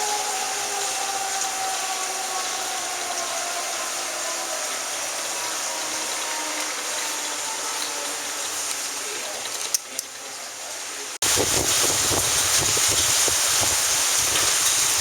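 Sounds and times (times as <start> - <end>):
tornado sirens wailing: 0.0 - 9.4, 11.2 - 15.0
heavy downpour with hail: 0.0 - 15.0.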